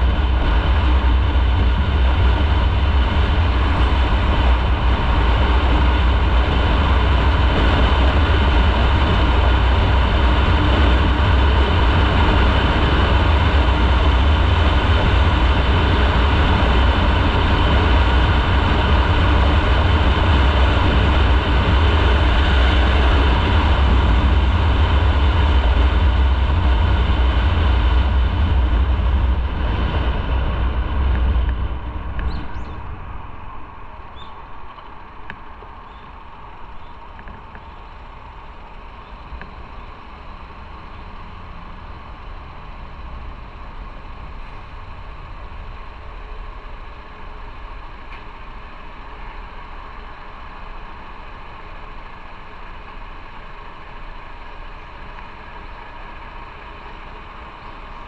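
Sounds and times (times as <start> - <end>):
motorcycle engine: 0.0 - 58.0
wind rumble on microphone: 0.0 - 58.0.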